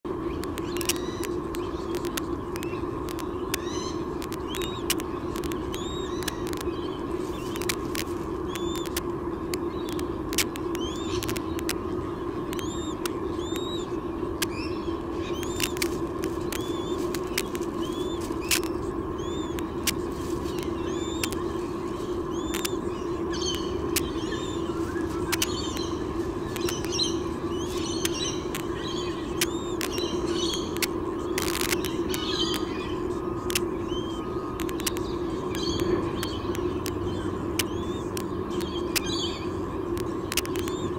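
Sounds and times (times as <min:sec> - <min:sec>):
steady low hum: 0:00.0 - 0:40.9
birds chirping: 0:00.1 - 0:40.9
sharp clicks: 0:00.3 - 0:13.8, 0:15.2 - 0:32.8, 0:33.4 - 0:39.2, 0:39.9 - 0:40.9.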